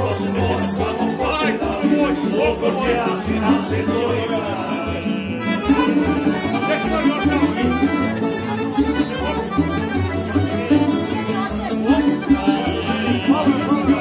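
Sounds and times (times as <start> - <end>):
accordion playing folk tune: 0.0 - 14.0
double bass plucking low notes: 0.0 - 14.0.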